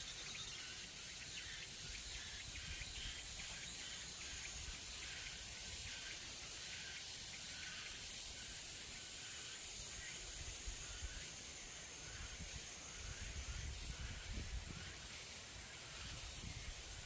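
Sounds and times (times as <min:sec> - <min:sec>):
high-pitched insect hiss: 0:00.0 - 0:17.0.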